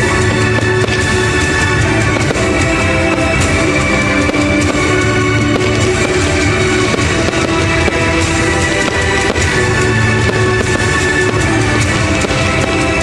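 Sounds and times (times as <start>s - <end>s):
fireworks popping and crackling: 0.0s - 13.0s
music playing: 0.0s - 13.0s.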